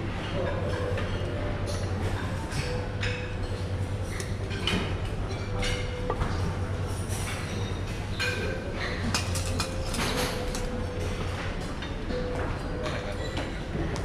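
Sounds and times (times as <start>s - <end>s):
plates and cutlery clinking: 0.3s - 14.0s.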